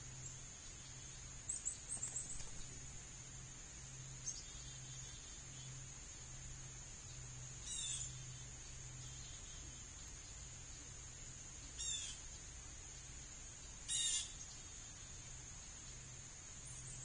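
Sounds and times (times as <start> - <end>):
insects droning: 0.0 - 17.0
small birds chirping: 0.0 - 17.0.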